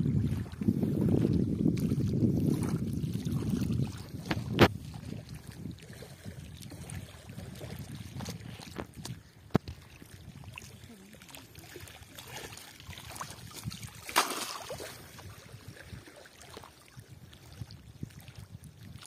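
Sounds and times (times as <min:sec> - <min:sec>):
small waves lapping: 0:00.0 - 0:19.0
wind rumbling on microphone: 0:00.0 - 0:19.0.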